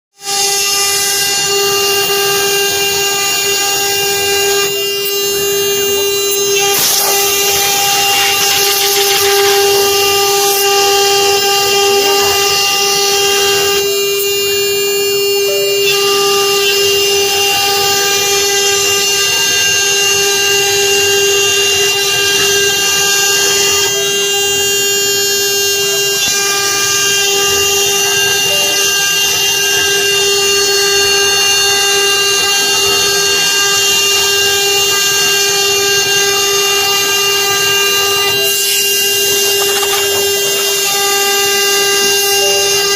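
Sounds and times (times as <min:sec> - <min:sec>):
bit cutting wood: 0:00.2 - 0:14.0, 0:21.2 - 0:42.9
router spindle whine: 0:00.2 - 0:42.9.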